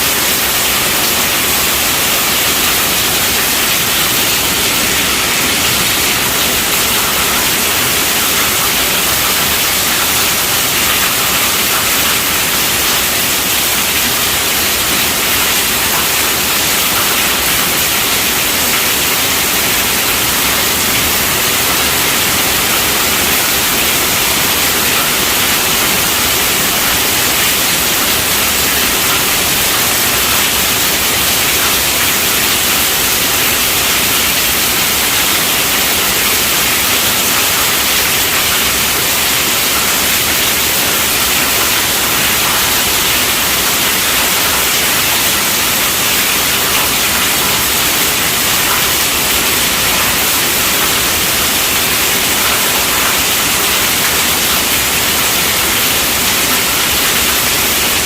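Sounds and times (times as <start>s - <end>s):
heavy rain on a tent roof: 0.0s - 58.0s.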